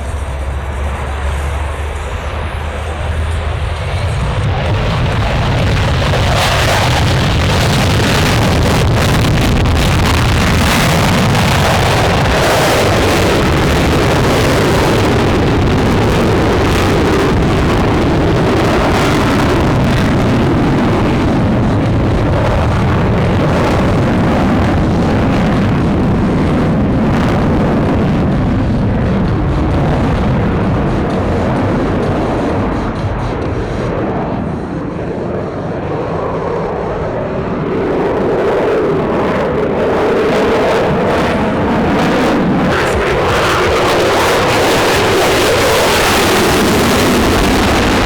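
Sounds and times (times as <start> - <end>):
propeller aircraft engines: 0.0 - 48.0
wind buffeting microphone: 0.0 - 48.0.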